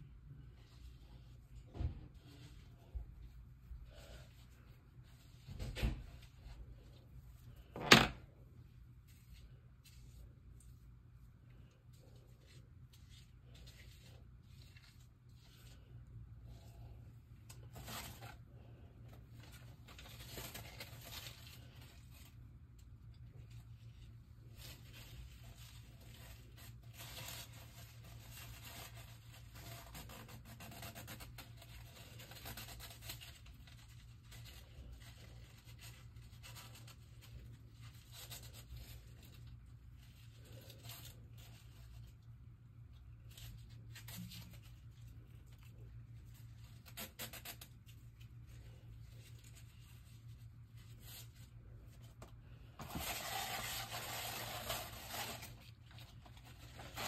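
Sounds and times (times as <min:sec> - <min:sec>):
rustling: 0:00.1 - 0:57.0.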